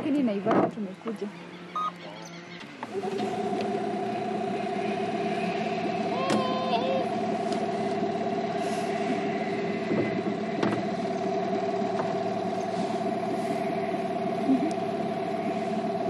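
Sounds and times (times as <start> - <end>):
boat outboard motor running: 0.0 - 16.0.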